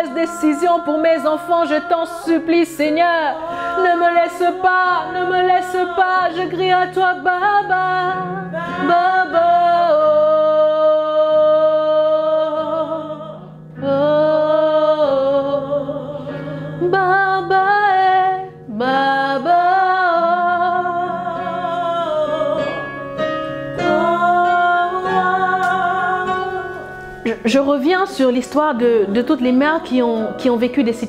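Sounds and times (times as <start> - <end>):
woman singing slow prayer song: 0.0 - 22.9, 23.8 - 31.0
soft instrumental accompaniment: 0.0 - 31.0.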